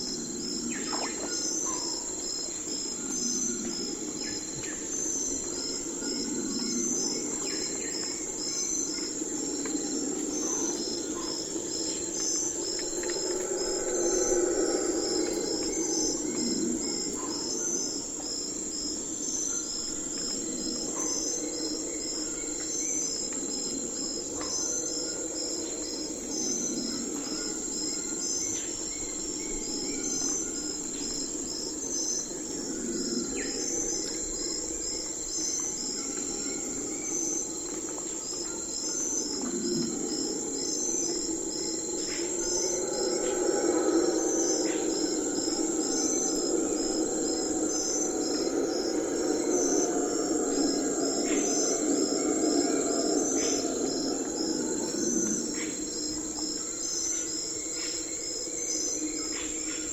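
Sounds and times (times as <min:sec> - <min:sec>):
crickets chirping: 0:00.0 - 0:59.9
high insect drone: 0:00.0 - 0:59.9.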